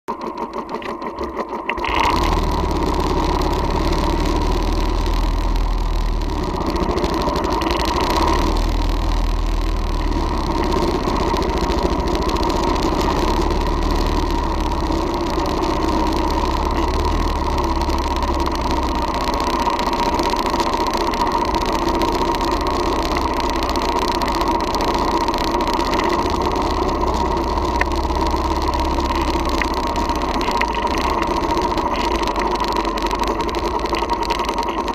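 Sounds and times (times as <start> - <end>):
motorcycle engine rumbling: 0.1 - 34.9.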